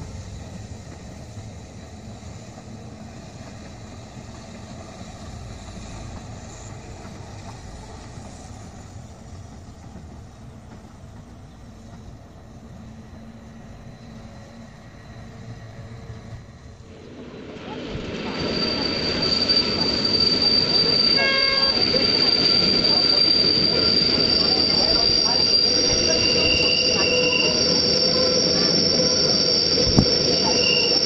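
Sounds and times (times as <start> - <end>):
distant train rumble: 0.0 - 31.0.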